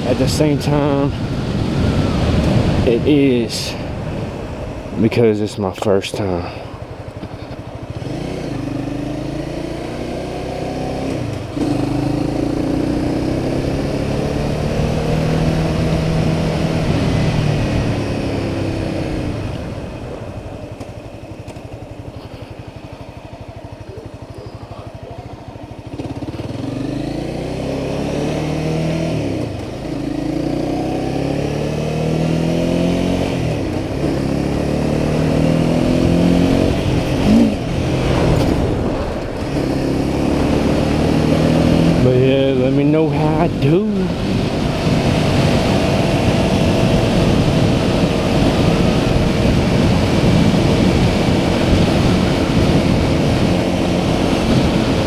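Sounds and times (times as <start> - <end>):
motorcycle engine revving through gears: 0.0 - 4.8, 6.3 - 55.0.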